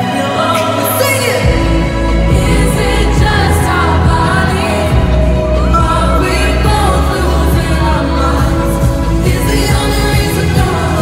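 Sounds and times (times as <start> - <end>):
live pop band: 0.0 - 11.0
woman singing: 0.0 - 11.0
deep bass: 1.4 - 11.0.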